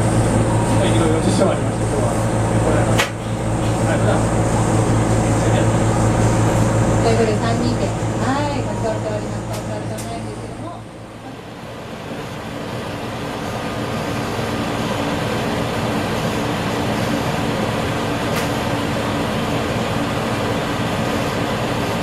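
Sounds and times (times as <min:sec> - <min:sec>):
diesel railcar engine running: 0:00.0 - 0:22.0.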